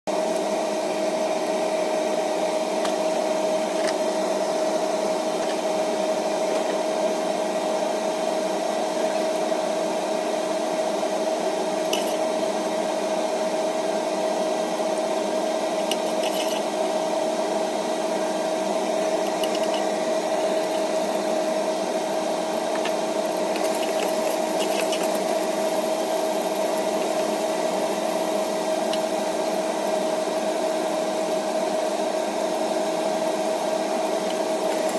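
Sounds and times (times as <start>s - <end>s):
steady mechanical hum: 0.1s - 34.9s.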